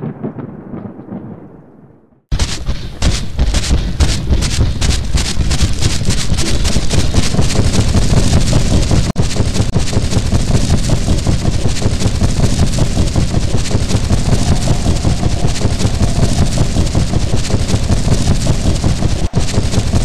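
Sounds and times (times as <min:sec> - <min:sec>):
train running: 0:02.3 - 0:20.0.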